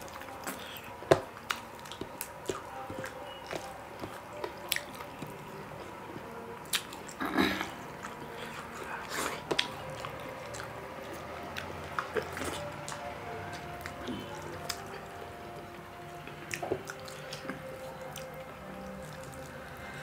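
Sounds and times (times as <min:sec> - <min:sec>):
wet chewing and squishing: 0:00.0 - 0:20.0.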